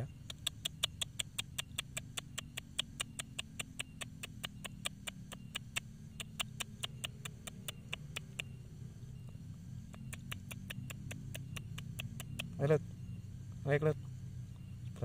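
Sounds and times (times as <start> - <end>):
animal clicking call: 0.0 - 12.9
low steady rumble: 0.0 - 15.0.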